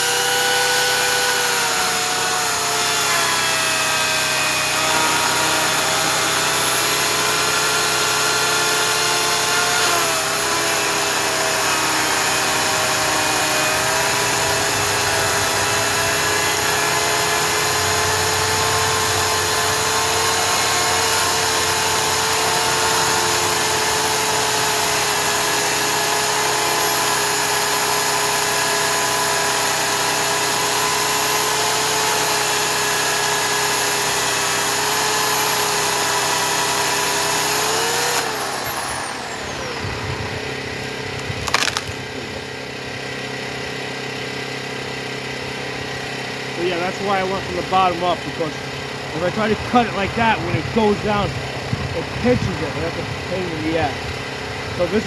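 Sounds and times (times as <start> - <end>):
electric chainsaw cutting log: 0.0 - 55.0.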